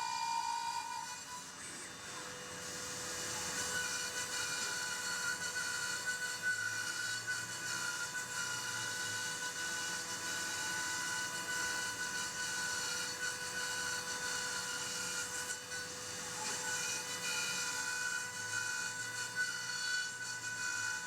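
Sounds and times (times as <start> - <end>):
milling machine spindle whine: 0.0 - 21.0.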